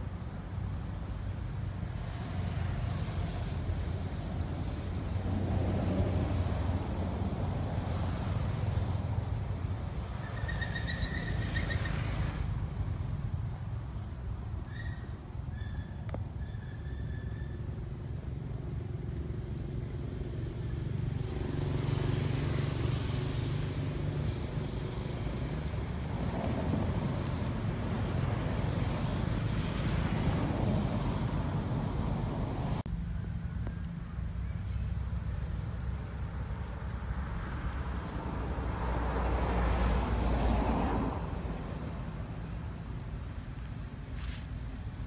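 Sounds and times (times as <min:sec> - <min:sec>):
road traffic engine rumble: 0:00.0 - 0:45.0.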